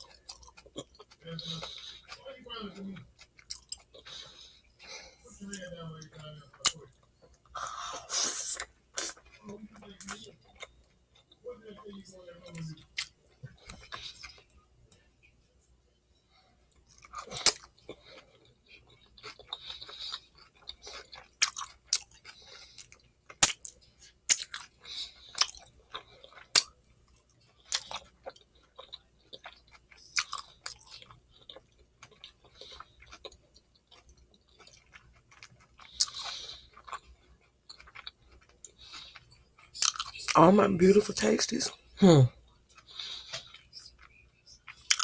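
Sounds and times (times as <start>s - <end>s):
chewing crisp bread crust: 0.0s - 4.5s, 6.5s - 11.4s, 12.0s - 15.1s, 16.7s - 40.4s, 42.4s - 45.0s.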